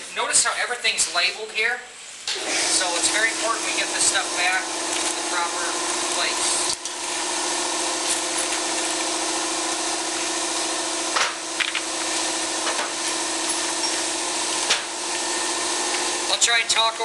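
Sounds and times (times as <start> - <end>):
air compressor humming: 2.2 - 17.0.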